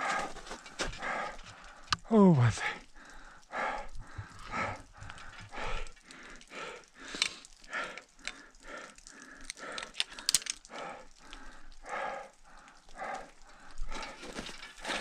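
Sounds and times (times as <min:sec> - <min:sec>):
heavy rapid breathing: 0:00.0 - 0:02.0, 0:02.6 - 0:15.0.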